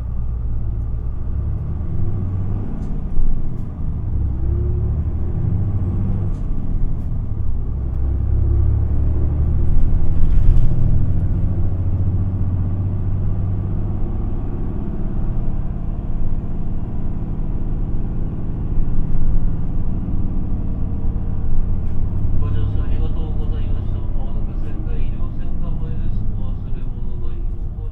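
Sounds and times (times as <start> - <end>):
bus diesel engine running: 0.0 - 27.9.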